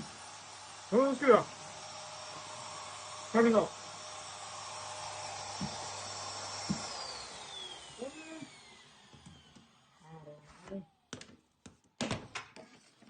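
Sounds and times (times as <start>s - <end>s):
vacuum motor whining: 0.0s - 11.1s.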